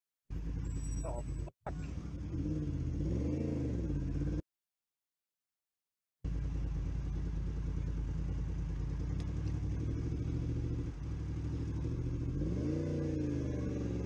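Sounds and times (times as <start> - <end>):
motorcycle engine revving: 0.3 - 4.4, 6.3 - 14.0.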